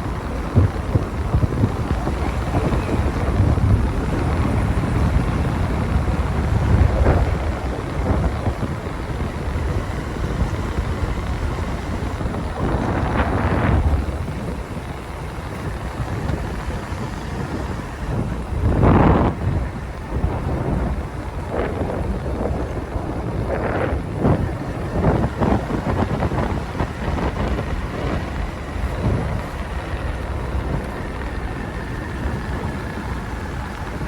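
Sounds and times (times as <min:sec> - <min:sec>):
motorcycle road rumble: 0:00.0 - 0:34.0
wind buffeting microphone: 0:00.0 - 0:34.0.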